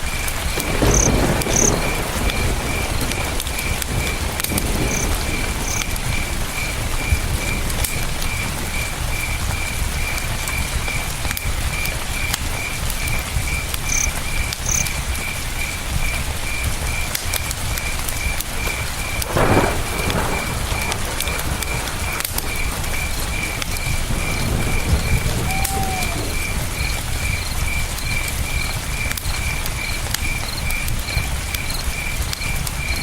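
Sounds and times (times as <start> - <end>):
campfire crackling and popping: 0.0 - 33.0
cricket chirping: 0.0 - 33.0.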